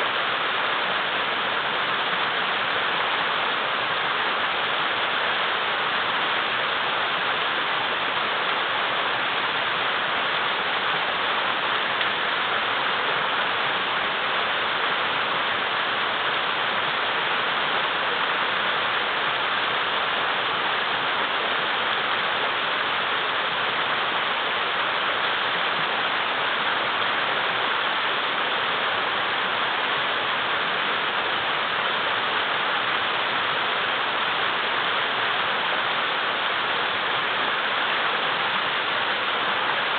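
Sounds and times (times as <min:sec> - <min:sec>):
river rapids rushing over boulders: 0:00.0 - 0:39.9.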